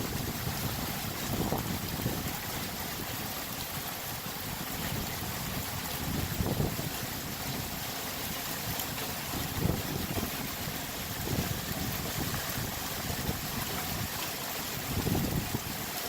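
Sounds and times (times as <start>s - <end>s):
heavy rain pouring: 0.0s - 7.8s, 8.4s - 16.0s
wind buffeting on microphone: 0.0s - 16.0s.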